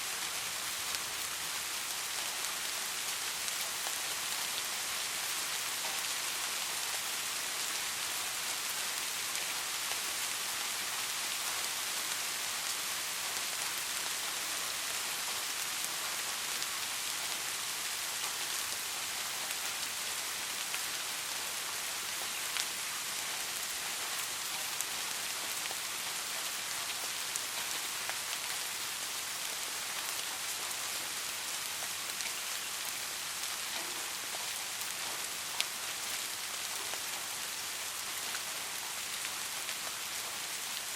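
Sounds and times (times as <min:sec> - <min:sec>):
soft rain patter: 0:00.0 - 0:40.9.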